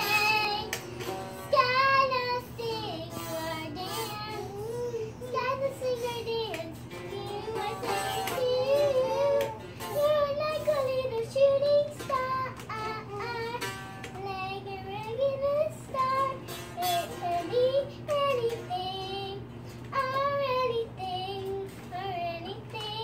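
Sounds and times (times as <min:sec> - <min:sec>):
girl singing: 0:00.0 - 0:23.0.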